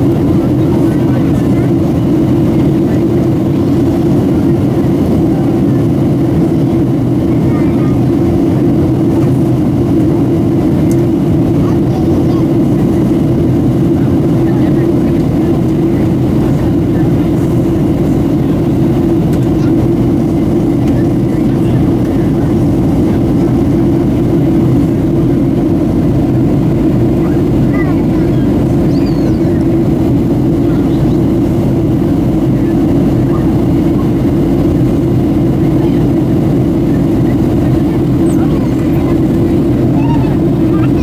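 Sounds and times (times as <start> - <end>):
airplane cabin engine drone: 0.0 - 41.0.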